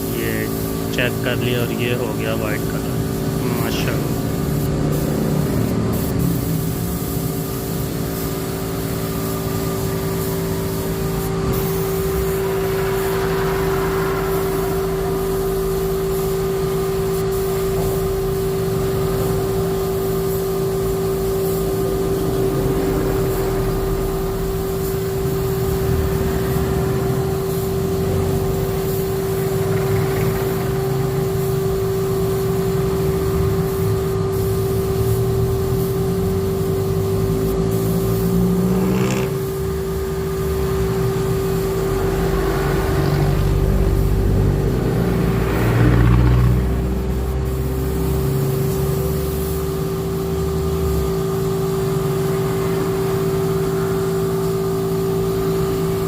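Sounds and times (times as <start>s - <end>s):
machine humming: 0.0s - 19.8s, 21.2s - 49.9s.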